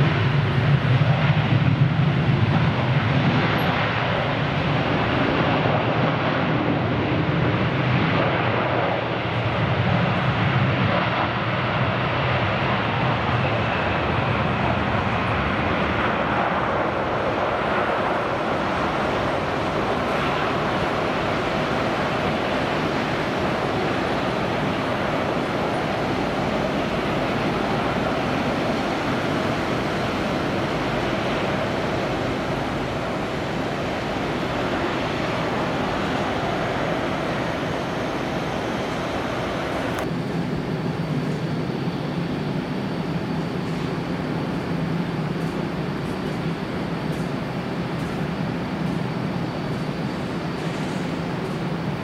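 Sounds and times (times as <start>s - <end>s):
faint engine whine: 0.0s - 52.0s
jet engines idling: 0.0s - 52.0s.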